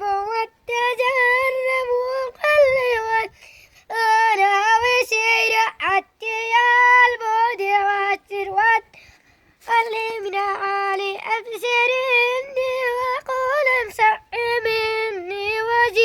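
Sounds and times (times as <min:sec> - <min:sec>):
child singing unaccompanied: 0:00.0 - 0:16.0.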